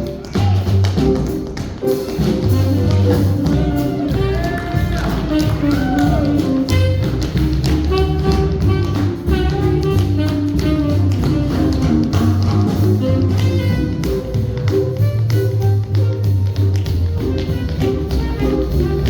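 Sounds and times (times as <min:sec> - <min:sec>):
swing band playing: 0:00.0 - 0:19.0
tap shoes clicking: 0:00.0 - 0:19.0.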